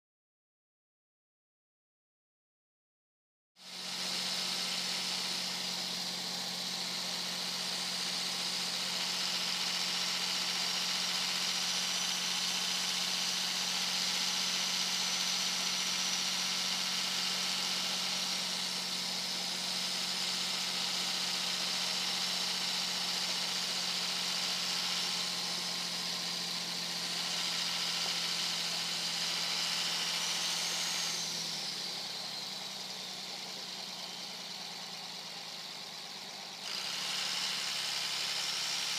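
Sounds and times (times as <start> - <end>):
diesel engine drone: 3.7 - 38.9
turbocharger whistle: 4.4 - 35.8.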